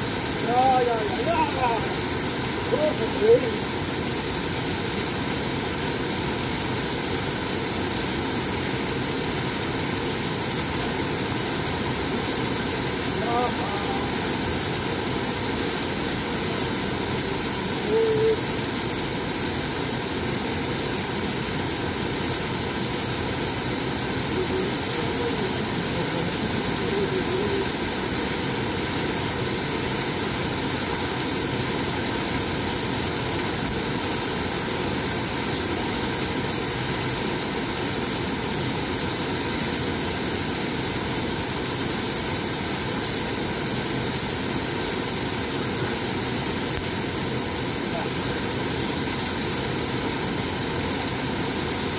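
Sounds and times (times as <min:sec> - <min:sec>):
waterfall pouring onto rocks: 0:00.0 - 0:51.9.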